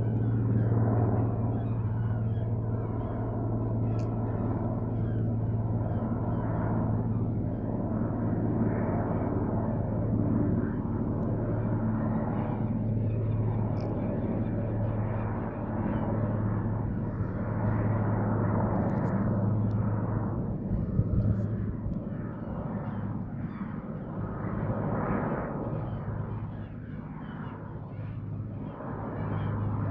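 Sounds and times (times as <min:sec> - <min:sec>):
helicopter flying: 0:00.0 - 0:29.9.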